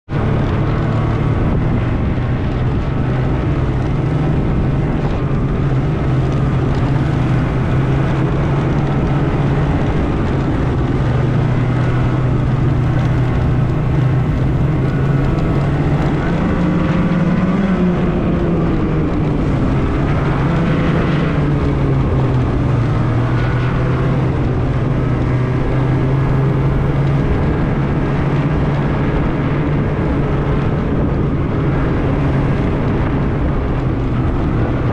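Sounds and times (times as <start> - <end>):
snowmobile engine running: 0.0 - 34.9.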